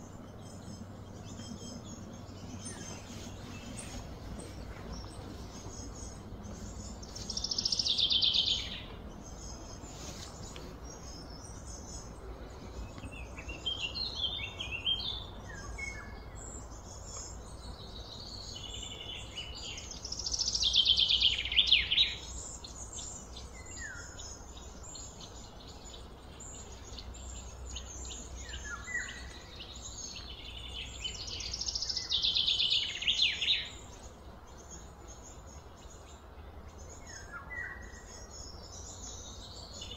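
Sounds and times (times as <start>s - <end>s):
birds trilling and chirping: 0.0s - 39.9s
outdoor background noise: 0.0s - 39.9s.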